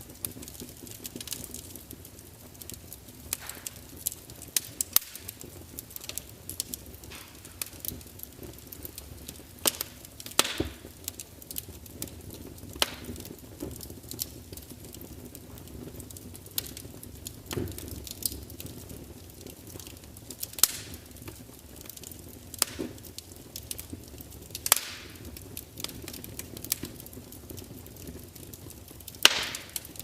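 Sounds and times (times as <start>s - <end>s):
wood fire crackling and spitting: 0.0s - 30.0s.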